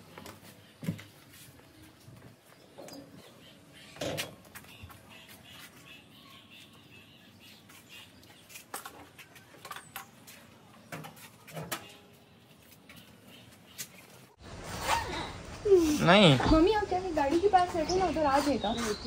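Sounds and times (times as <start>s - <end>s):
caged birds chirping: 0.0s - 19.0s.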